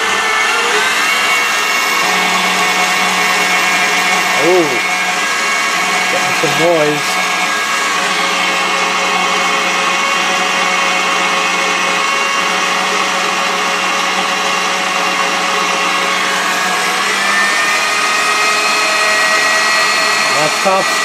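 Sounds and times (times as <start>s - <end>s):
stand mixer motor whining: 0.0s - 21.0s.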